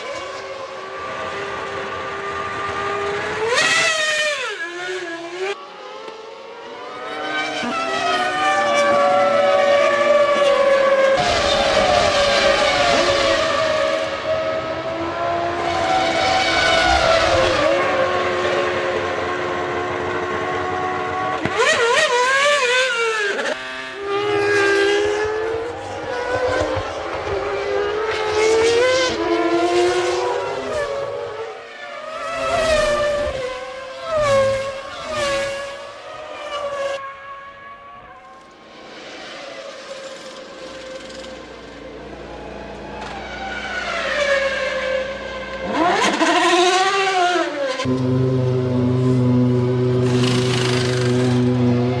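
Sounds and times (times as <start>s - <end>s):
race car engines at high revs: 0.0s - 37.7s, 38.7s - 52.0s.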